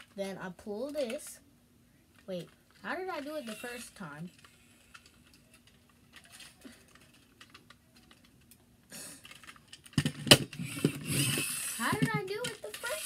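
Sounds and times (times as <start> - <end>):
plastic toy trucks clicking and rattling: 0.0 - 1.4, 2.1 - 13.0.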